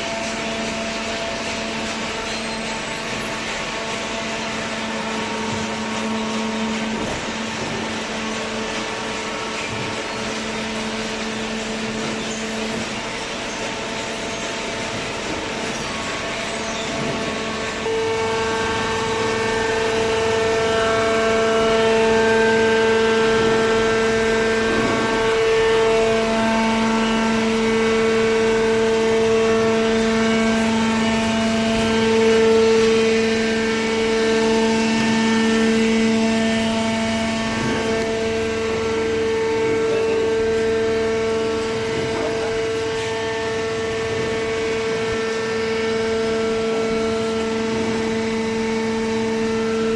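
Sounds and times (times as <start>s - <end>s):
hydraulic baler droning whine: 0.0s - 49.9s.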